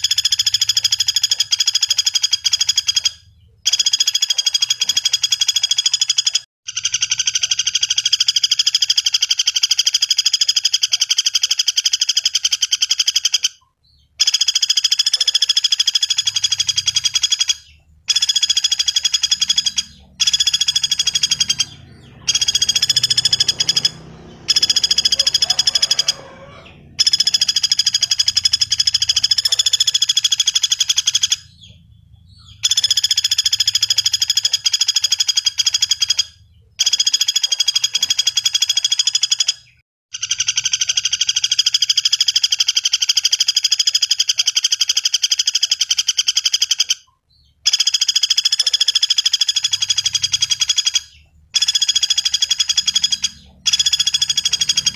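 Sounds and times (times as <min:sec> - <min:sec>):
woodpecker rattling trills: 0:00.0 - 0:54.9.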